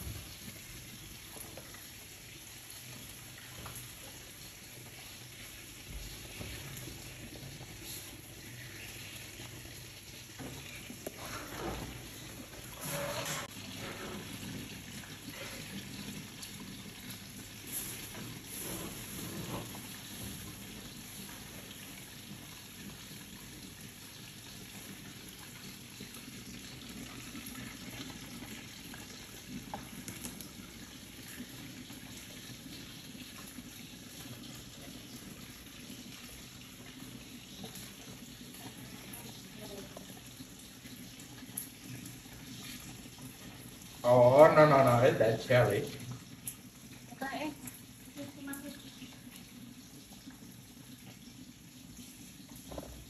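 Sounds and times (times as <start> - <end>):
water running from tap: 0.0 - 53.0.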